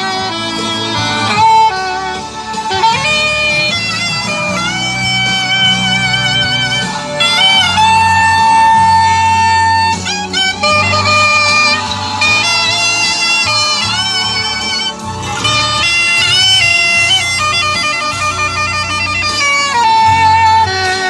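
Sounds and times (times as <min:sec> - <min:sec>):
backing accompaniment: 0:00.0 - 0:21.0
saxophone melody: 0:00.0 - 0:21.0.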